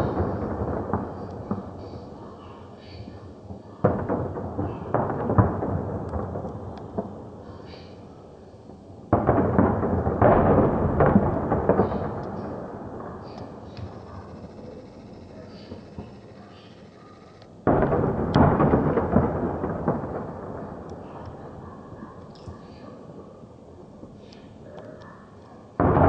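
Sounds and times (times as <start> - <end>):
fireworks crackling: 0.0 - 2.3, 3.0 - 24.6
fireworks bang: 0.0 - 8.0, 8.6 - 24.4, 25.8 - 26.0.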